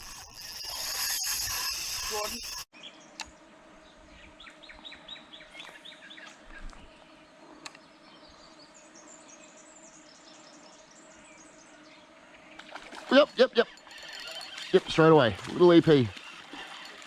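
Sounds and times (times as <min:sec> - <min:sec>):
wild birds calling: 0:02.9 - 0:17.0.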